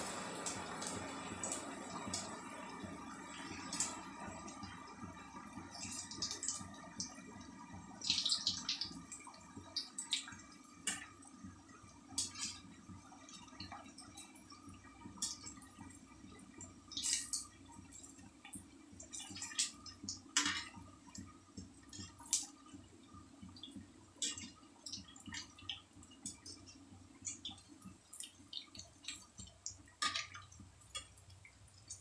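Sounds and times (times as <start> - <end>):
oil sizzling with crackles and pops: 0.0 - 32.0.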